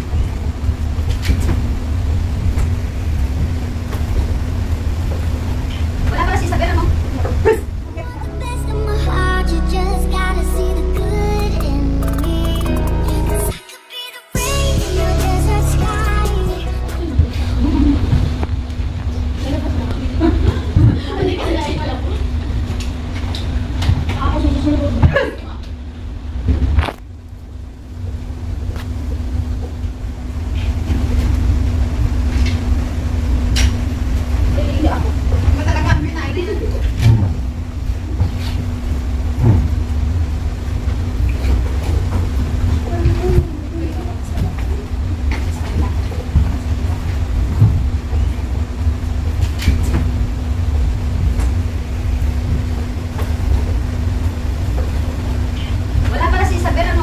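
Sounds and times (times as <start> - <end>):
low room rumble with hum: 0.0 - 13.6, 14.4 - 57.0.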